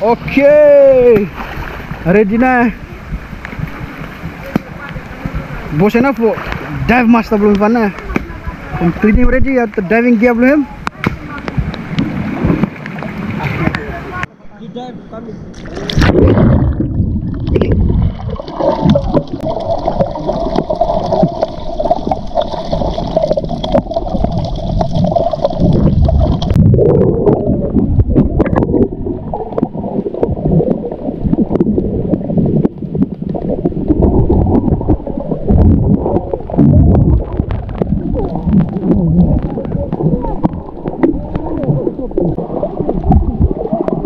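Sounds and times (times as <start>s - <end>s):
water gurgling and sloshing: 0.0s - 14.4s, 15.2s - 44.0s.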